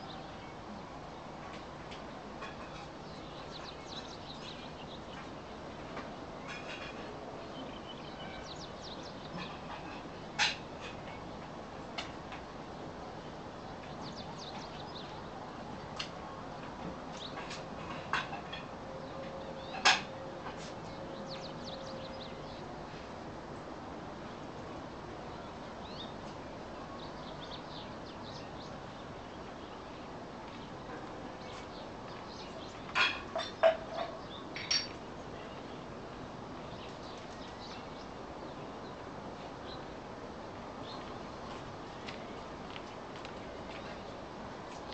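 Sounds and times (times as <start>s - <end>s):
small birds chirping: 2.4s - 12.0s, 12.7s - 23.1s, 25.2s - 35.9s, 36.6s - 40.1s, 40.8s - 44.9s.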